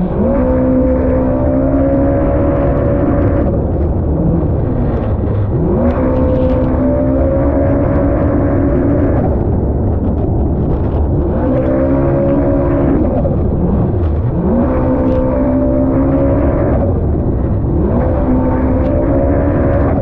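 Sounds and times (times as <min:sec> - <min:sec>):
jet ski engine revving: 0:00.0 - 0:20.0.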